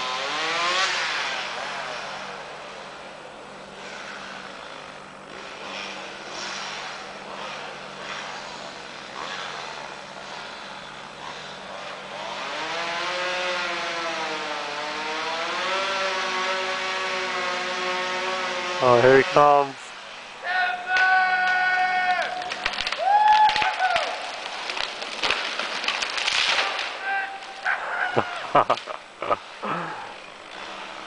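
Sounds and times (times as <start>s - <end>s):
chainsaw cutting: 0.0s - 20.4s, 22.2s - 31.0s.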